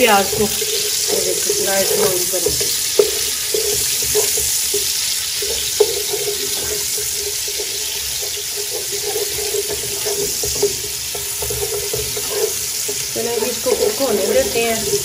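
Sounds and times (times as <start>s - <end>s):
onions sizzling in oil: 0.0s - 15.0s
wooden spoon scraping pan: 0.0s - 15.0s.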